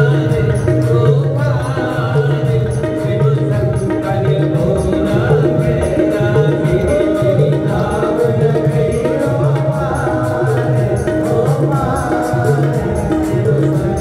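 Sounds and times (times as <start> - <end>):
devotional song with singing: 0.0 - 14.0
tabla: 0.0 - 14.0.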